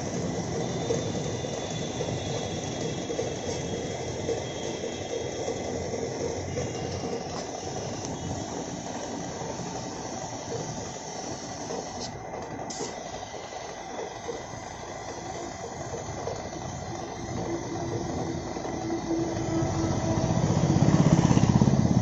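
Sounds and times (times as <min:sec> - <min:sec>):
spray gun hissing: 0:00.0 - 0:19.4.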